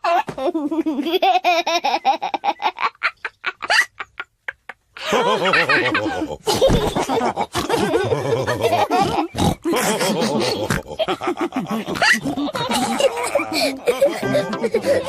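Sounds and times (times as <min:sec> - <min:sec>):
cartoon characters laughing and snorting: 0:00.5 - 0:15.0.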